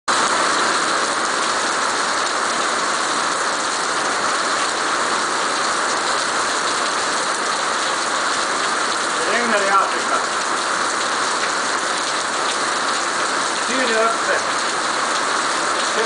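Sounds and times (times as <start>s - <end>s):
heavy rain on paving stones: 0.1s - 16.0s.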